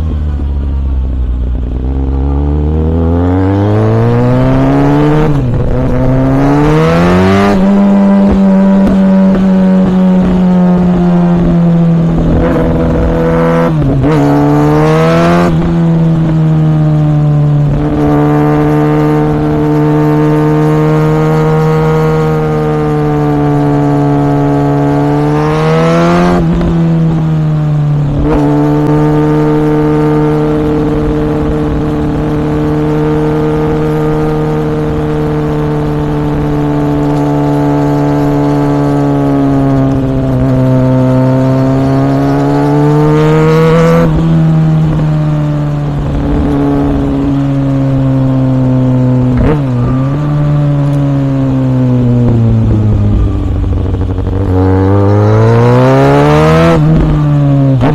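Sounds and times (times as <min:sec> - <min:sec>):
motorcycle engine shifting gears: 0:00.0 - 0:57.9.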